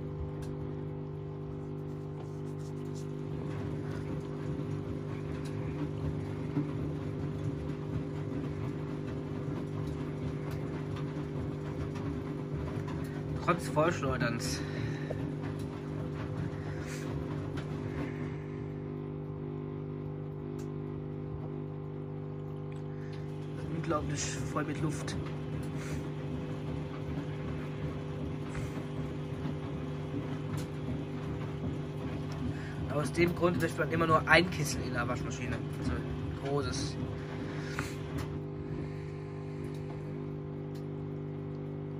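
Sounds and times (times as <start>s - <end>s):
washing machine drum rumbling: 0.0s - 41.9s
washing machine motor humming: 0.0s - 41.9s.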